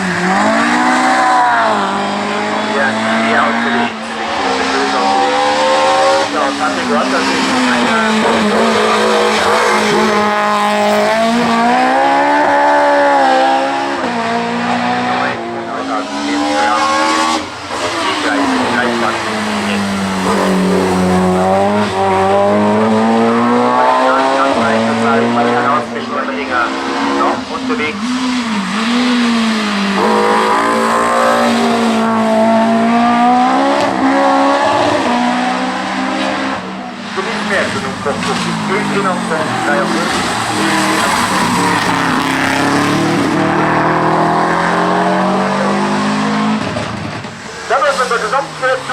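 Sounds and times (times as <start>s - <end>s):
race car engine running hard: 0.0s - 48.9s.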